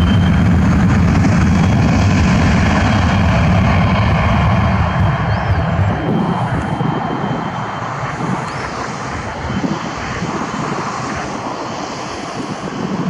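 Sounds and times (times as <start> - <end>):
jet engine roar with whine: 0.0 - 13.0.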